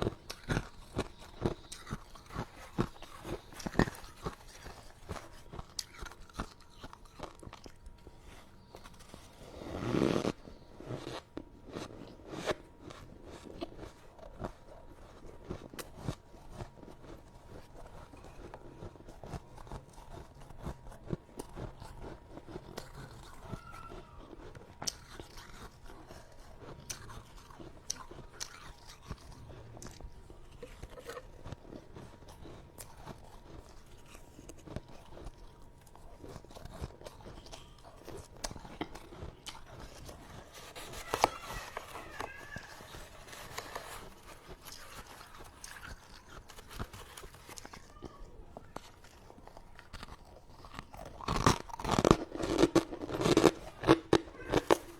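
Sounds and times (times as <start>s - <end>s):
chewing crunchy ice: 0.0s - 54.9s.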